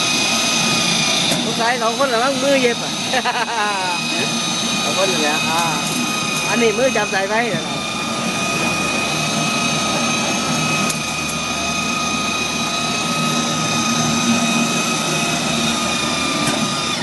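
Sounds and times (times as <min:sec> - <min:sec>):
seaming machine whining: 0:00.0 - 0:17.0.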